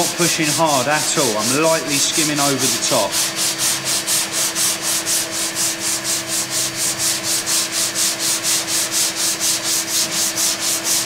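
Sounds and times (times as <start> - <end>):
hand sanding with sandpaper: 0.0 - 11.0.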